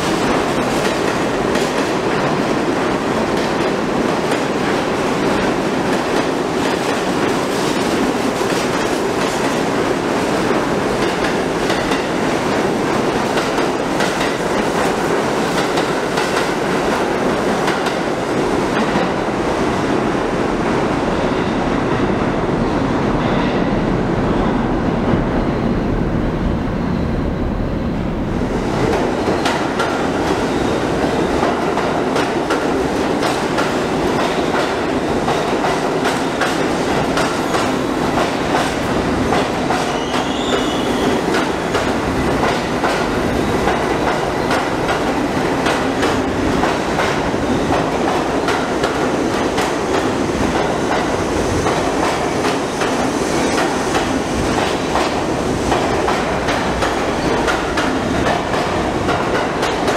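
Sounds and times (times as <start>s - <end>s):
subway train rumble: 0.0s - 59.9s.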